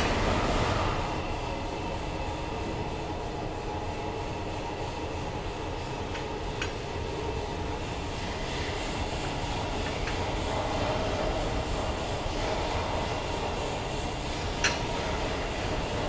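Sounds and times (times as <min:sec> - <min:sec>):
machinery rumbling and hissing: 0:00.0 - 0:16.0.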